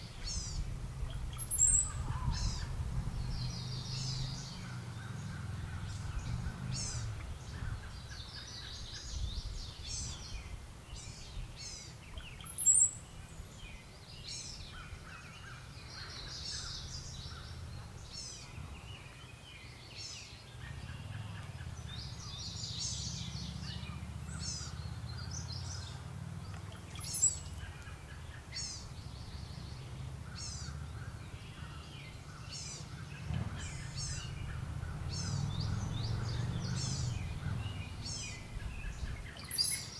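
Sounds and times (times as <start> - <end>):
birds calling and chattering: 0.0 - 39.9.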